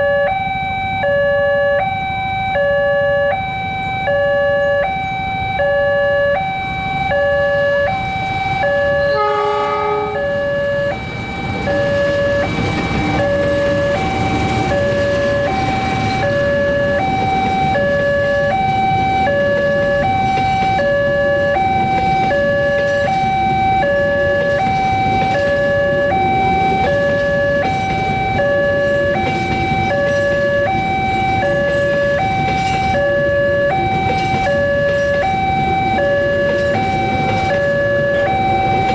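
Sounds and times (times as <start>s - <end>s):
level crossing warning alarm: 0.0s - 38.9s.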